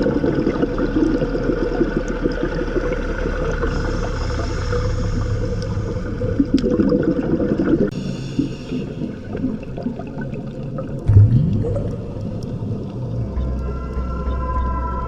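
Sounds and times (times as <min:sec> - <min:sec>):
regulator exhaust bubbles underwater: 0:00.0 - 0:14.8.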